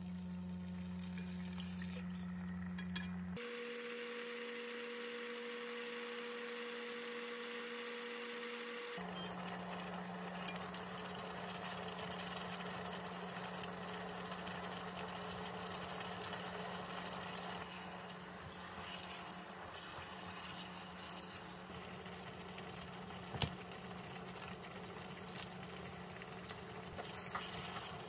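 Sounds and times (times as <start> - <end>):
electric hum with fan hiss: 0.0 - 28.0.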